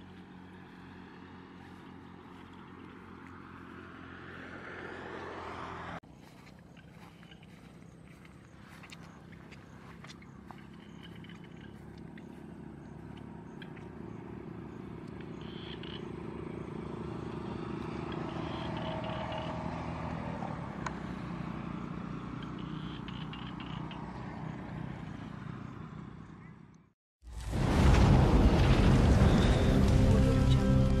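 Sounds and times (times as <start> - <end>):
motor engine humming: 0.0 - 26.6, 27.9 - 31.0.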